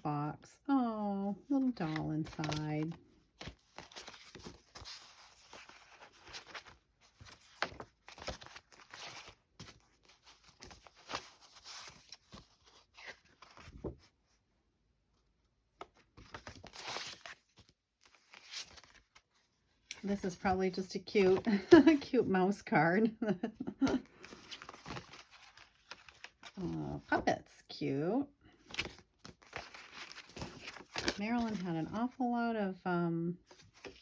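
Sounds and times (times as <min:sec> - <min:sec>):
paper cards rustling: 0:01.5 - 0:14.0, 0:15.8 - 0:22.7, 0:23.5 - 0:27.3, 0:28.6 - 0:32.2, 0:33.5 - 0:34.0.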